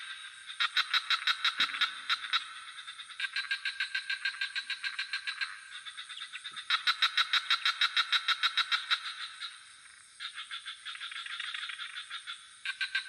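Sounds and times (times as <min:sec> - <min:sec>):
frogs calling in pulsed trills: 0:00.0 - 0:13.0
high insect drone: 0:00.0 - 0:13.0.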